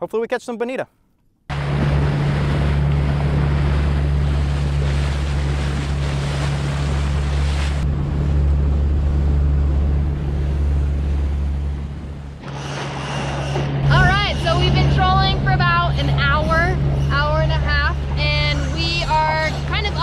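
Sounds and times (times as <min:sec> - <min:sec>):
outboard motor running: 0:01.5 - 0:20.0
water rushing past hull: 0:01.5 - 0:20.0
wind buffeting microphone: 0:01.5 - 0:20.0.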